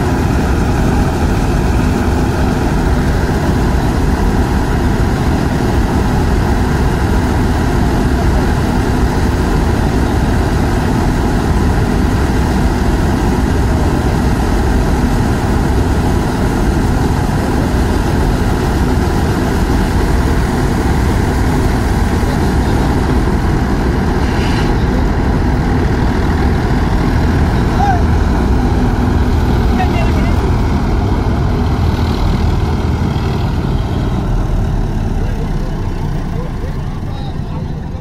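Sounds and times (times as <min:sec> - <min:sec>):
threshing machinery running: 0:00.0 - 0:38.0
tractor diesel engine: 0:00.0 - 0:38.0.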